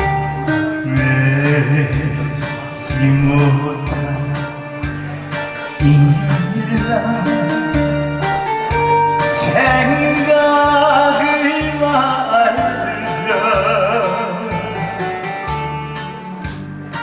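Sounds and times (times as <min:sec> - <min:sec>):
man singing with vibrato: 0:00.0 - 0:16.6
karaoke backing track: 0:00.0 - 0:17.0.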